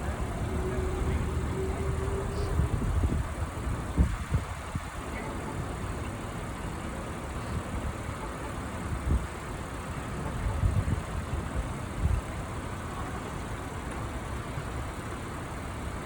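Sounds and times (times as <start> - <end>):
street noise: 0.0 - 16.0
vehicle engine rumble: 0.0 - 16.0.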